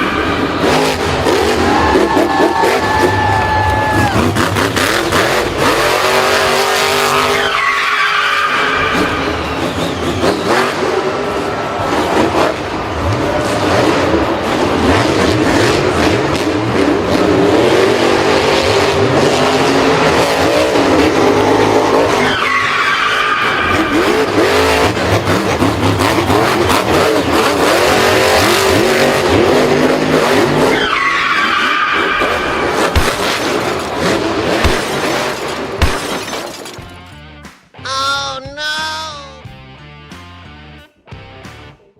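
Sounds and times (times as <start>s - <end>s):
racing car engine revving: 0.0s - 35.8s
tyres skidding: 0.0s - 37.2s.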